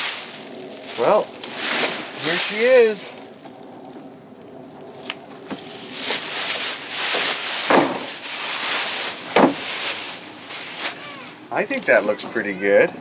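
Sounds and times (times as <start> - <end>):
plastic bag rustling and crinkling: 0.0 - 12.9.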